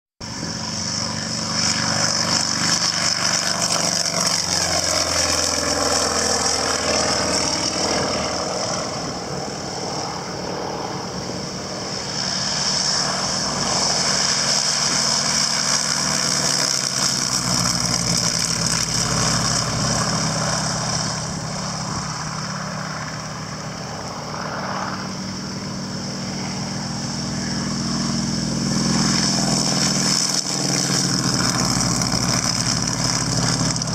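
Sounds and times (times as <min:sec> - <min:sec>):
propeller aircraft engine running: 0:00.2 - 0:33.9.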